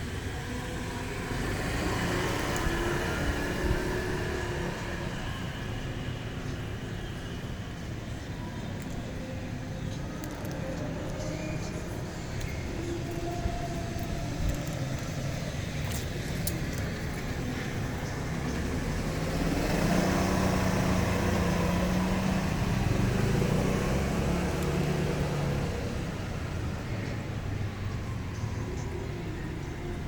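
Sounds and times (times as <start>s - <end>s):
vehicle passing by: 0.2s - 6.0s, 10.2s - 28.9s.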